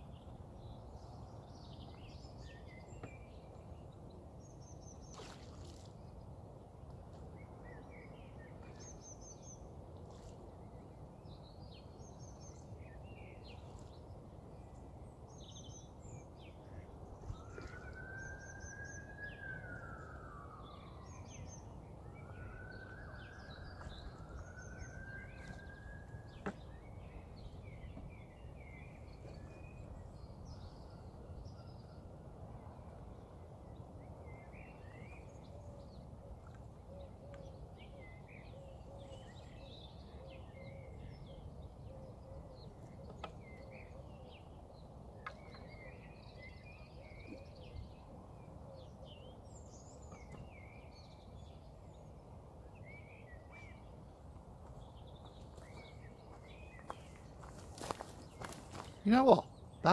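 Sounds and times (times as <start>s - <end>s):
small songbirds chirping: 0.0s - 59.9s.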